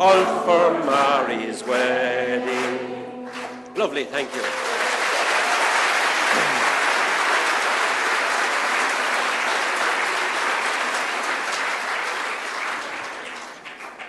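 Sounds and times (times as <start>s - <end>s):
congregation applauding: 0.0s - 14.0s.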